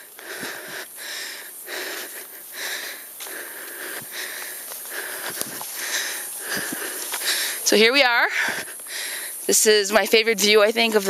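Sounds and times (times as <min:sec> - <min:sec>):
person breathing hard: 0:00.0 - 0:09.5.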